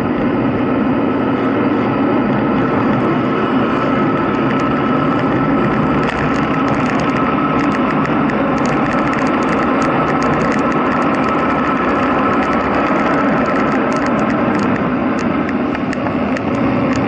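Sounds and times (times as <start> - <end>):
tyre noise on tarmac: 0.0 - 17.0
wind rushing over microphone: 0.0 - 17.0.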